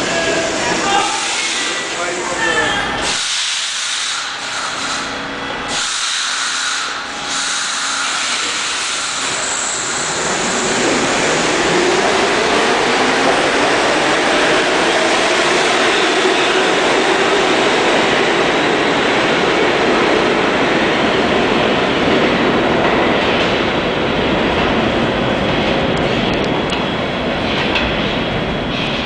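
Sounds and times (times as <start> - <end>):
wheels rumbling on rail: 4.4 - 29.0.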